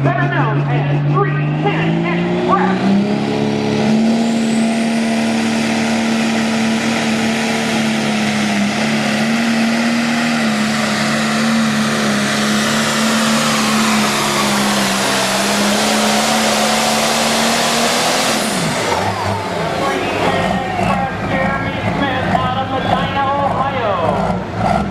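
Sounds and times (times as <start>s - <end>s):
diesel engine running flat out: 0.0s - 24.9s.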